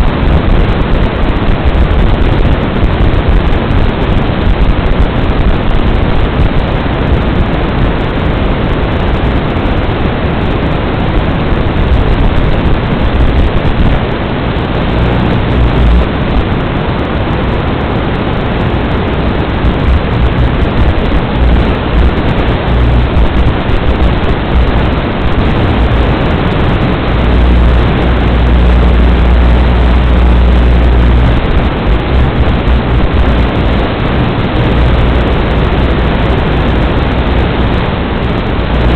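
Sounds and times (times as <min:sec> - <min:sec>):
low rumble: 0:00.0 - 0:38.9
static hiss: 0:00.0 - 0:38.9.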